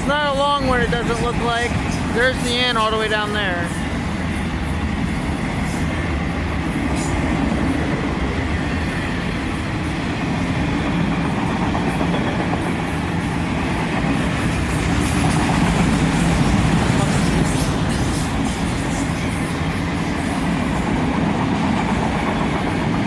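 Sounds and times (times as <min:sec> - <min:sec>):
freight train rolling past: 0:00.0 - 0:23.0
wheels clicking over rail joints: 0:00.0 - 0:23.0.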